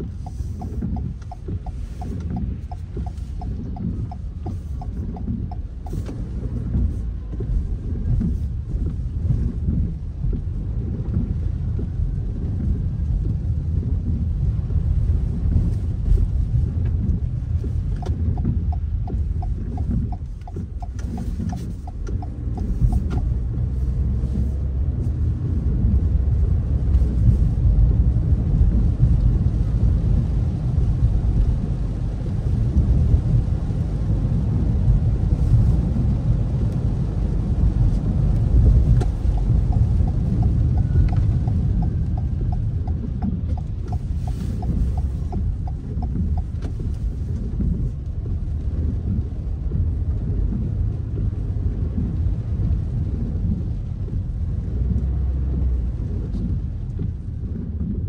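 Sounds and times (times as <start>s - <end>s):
engine and tyres on wet road: 0.0s - 58.0s
turn signal ticking: 0.0s - 58.0s.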